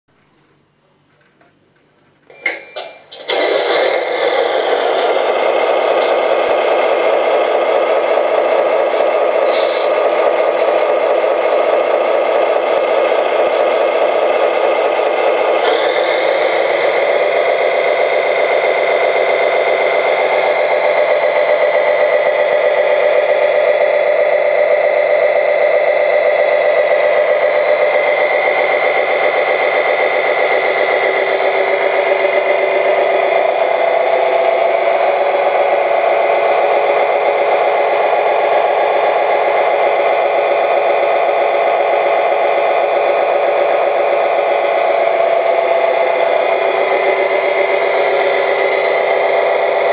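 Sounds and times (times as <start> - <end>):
simulated diesel engine starting: 2.2 - 49.9
simulated diesel engine idling: 3.2 - 49.9.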